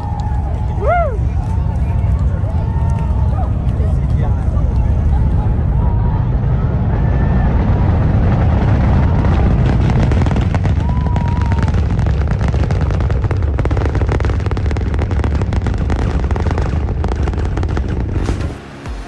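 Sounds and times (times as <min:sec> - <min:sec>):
rocket engines rumbling: 0:00.0 - 0:19.0.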